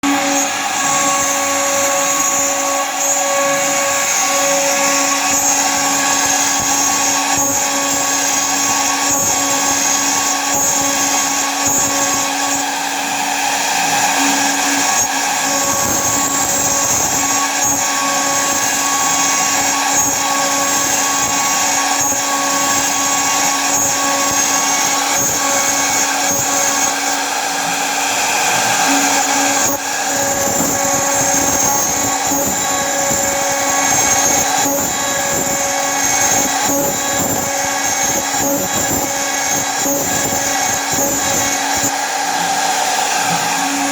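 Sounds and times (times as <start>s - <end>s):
cnc router whining: 0.0s - 43.9s.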